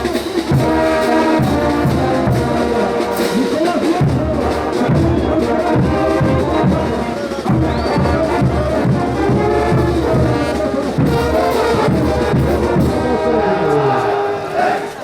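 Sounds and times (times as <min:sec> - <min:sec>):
drums keeping a beat: 0:00.0 - 0:14.0
brass band playing dance music: 0:00.0 - 0:15.0
trumpets and trombones: 0:00.0 - 0:15.0.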